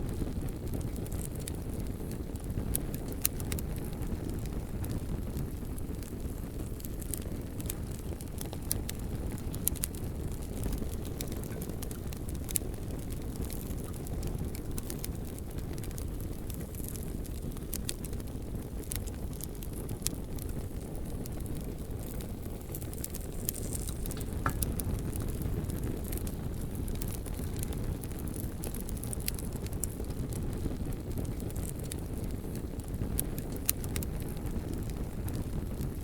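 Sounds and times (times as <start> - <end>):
fire low rumble: 0.0 - 36.0
wood crackling and popping: 0.0 - 36.0.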